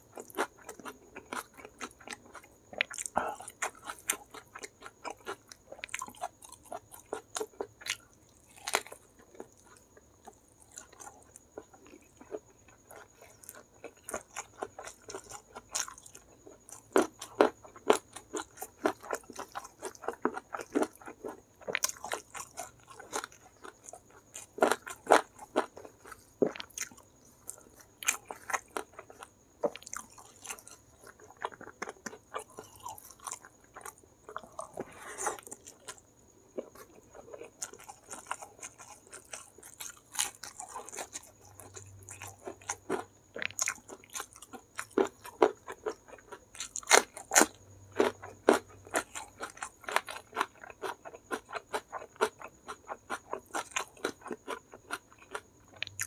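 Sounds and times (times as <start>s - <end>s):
chewing and crunching fried chicken: 0.0s - 56.0s.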